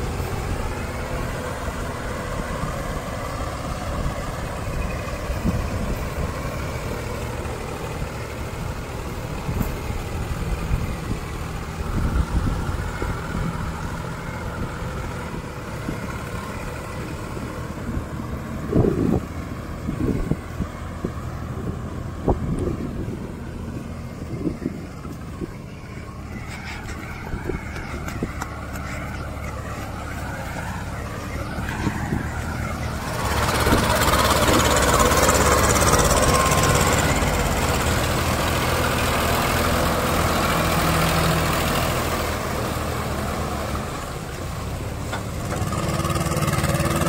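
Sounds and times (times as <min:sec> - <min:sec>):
diesel tractor engines running: 0:00.0 - 0:47.0.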